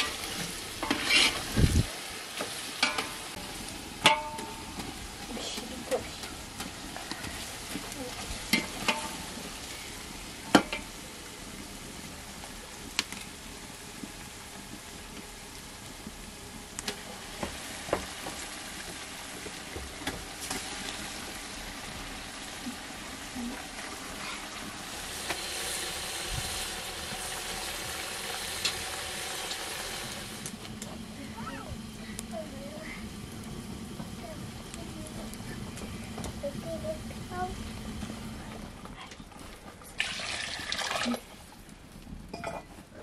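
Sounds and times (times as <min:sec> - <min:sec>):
stew sizzling in a pot: 0:00.0 - 0:43.0.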